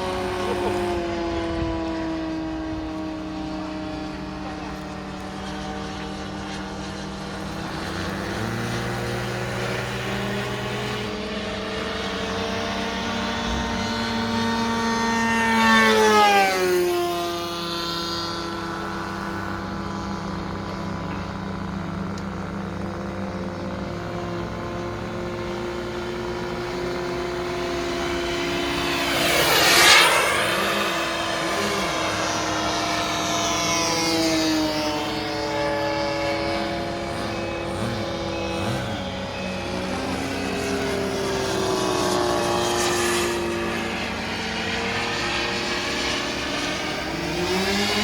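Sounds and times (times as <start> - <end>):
model jet turbine whining: 0.0 - 48.0.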